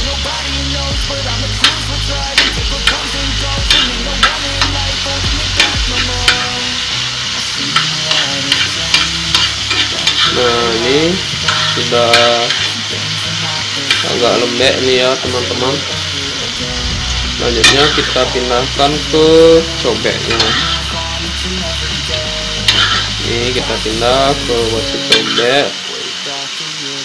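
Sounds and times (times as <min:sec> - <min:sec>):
tomatoes sizzling in hot oil: 0:00.0 - 0:27.0
metal spoon scraping a pan: 0:01.6 - 0:13.0, 0:13.7 - 0:16.5, 0:17.4 - 0:21.2, 0:21.9 - 0:26.2.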